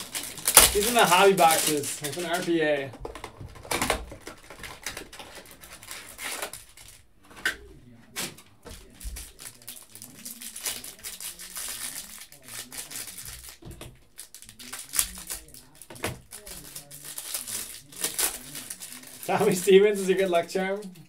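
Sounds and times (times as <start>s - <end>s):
cardboard and plastic rustling: 0.0s - 20.4s.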